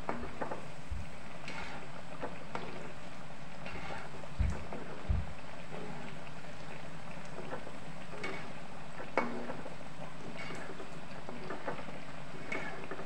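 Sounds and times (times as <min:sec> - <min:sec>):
food deep-frying in hot oil: 0:00.0 - 0:13.0
small crackles of oil: 0:00.5 - 0:13.0.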